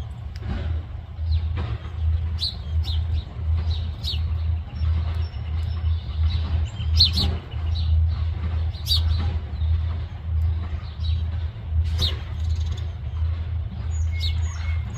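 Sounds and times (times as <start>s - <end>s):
steady low rumble: 0.0s - 14.9s
birds chirping: 1.0s - 14.9s.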